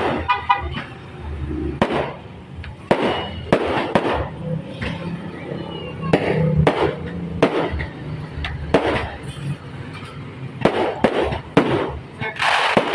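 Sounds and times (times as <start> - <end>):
fireworks bangs: 0.0 - 5.1, 5.9 - 9.6, 10.5 - 12.9.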